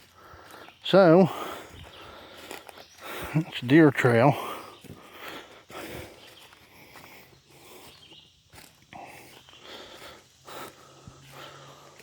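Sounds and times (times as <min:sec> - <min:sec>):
footsteps crunching on trail: 0:00.0 - 0:12.0.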